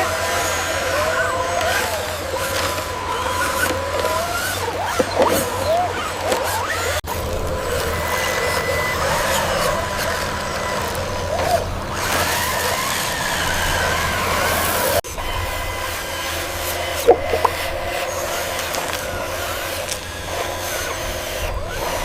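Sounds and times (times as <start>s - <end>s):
toy truck electric motors whirring: 0.0s - 22.0s.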